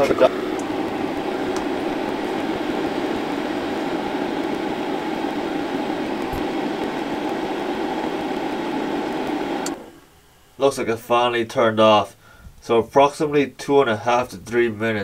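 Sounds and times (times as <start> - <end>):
heater fan running: 0.0 - 14.9.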